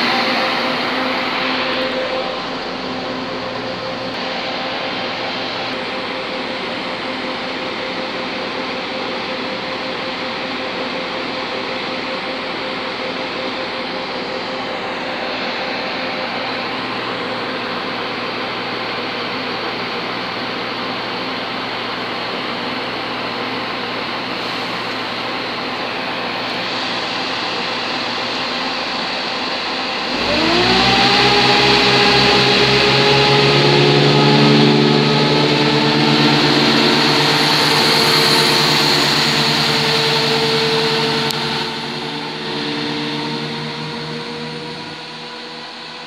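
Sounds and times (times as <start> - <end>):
diesel train engines: 0.0 - 46.0.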